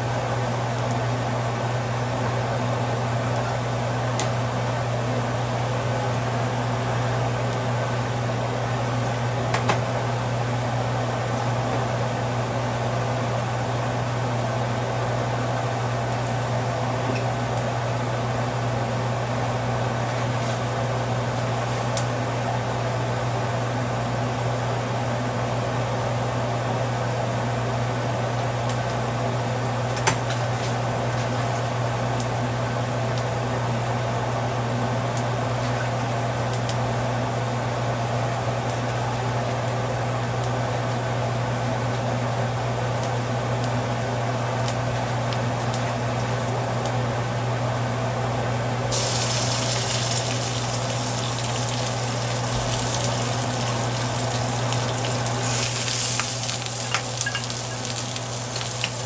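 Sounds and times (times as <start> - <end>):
mechanical hum with hiss: 0.0 - 59.0.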